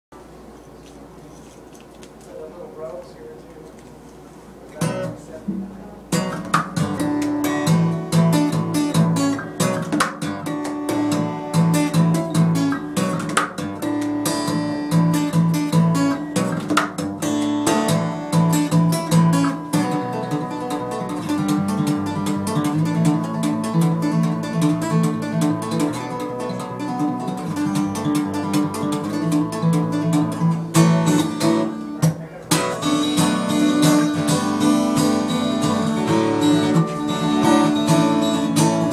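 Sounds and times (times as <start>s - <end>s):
acoustic guitar strumming: 4.8s - 38.9s.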